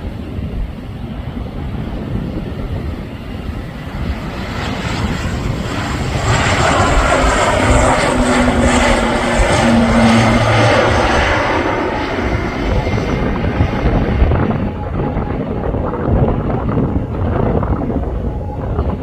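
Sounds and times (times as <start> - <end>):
airliner engines at takeoff: 0.0 - 19.0
wind buffeting microphone: 0.0 - 19.0.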